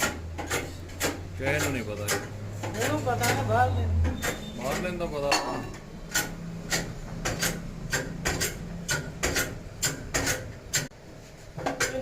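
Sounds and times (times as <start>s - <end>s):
sharp metallic clicks and taps: 0.0s - 5.0s, 5.7s - 10.9s.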